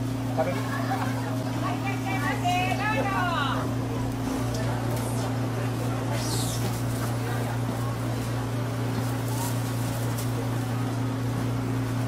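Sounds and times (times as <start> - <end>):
faint voices: 0.2 - 12.0.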